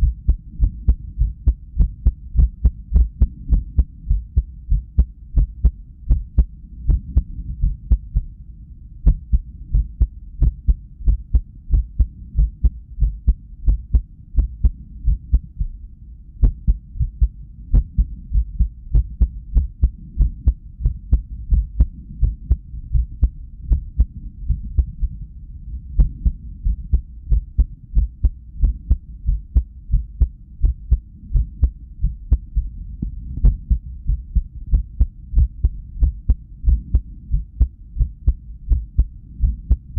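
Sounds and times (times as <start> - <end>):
irregular heartbeat thumps: 0.0 - 8.4, 9.0 - 15.8, 16.4 - 39.9.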